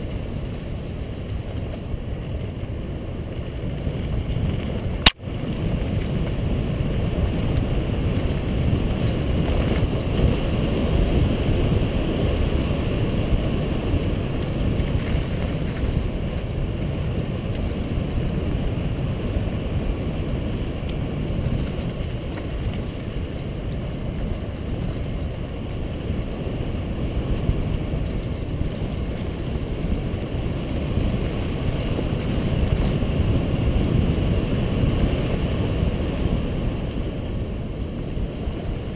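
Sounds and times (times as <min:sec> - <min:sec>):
bike tyre and frame rattle: 0:00.0 - 0:38.9
wind buffeting microphone: 0:00.0 - 0:38.9.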